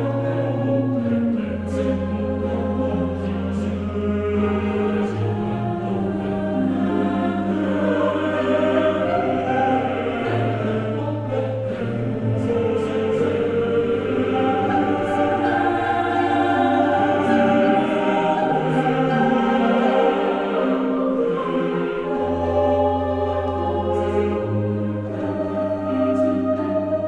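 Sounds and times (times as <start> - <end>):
choir singing slow chords: 0.0 - 27.0.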